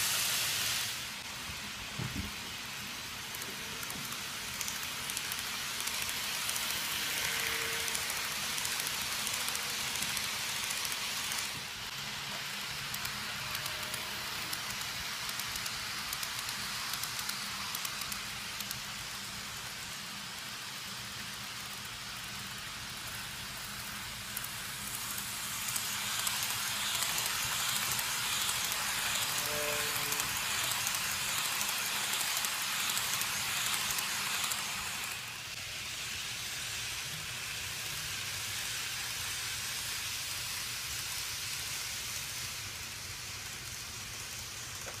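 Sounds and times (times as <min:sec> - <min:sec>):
model train wheels rattling: 0:01.1 - 0:45.0.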